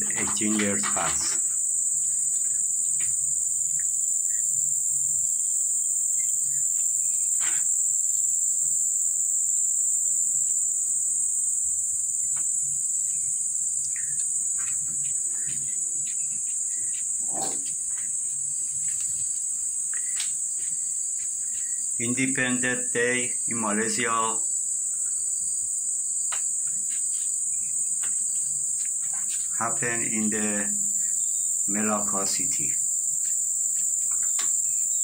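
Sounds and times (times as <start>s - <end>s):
high-pitched insect chirring: 0.0s - 35.0s.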